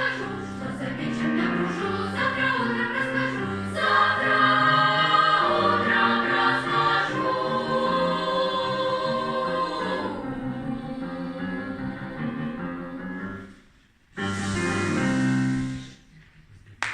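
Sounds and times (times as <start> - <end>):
choir singing in harmony: 0.0 - 13.6, 14.2 - 16.0.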